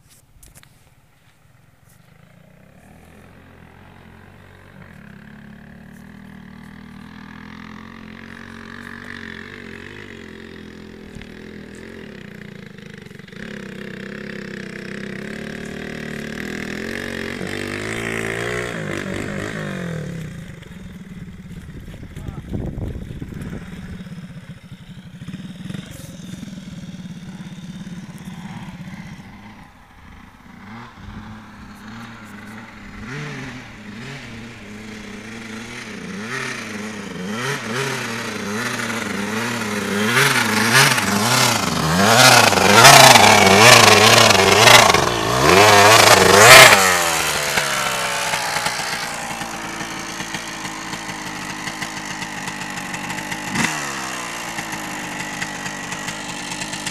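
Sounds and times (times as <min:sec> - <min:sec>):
motorcycle engine revving: 0:00.5 - 0:56.9.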